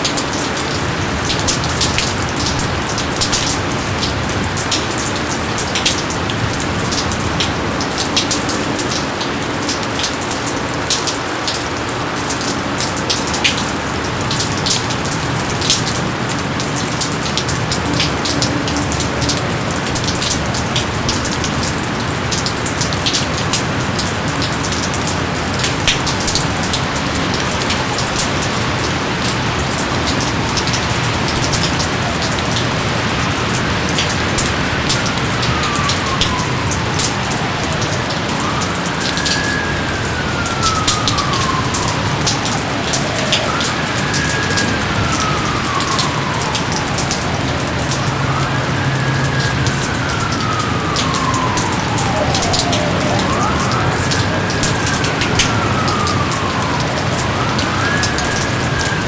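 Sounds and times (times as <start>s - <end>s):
rain drops ticking: 0.0s - 59.0s
rain hiss: 0.0s - 59.0s.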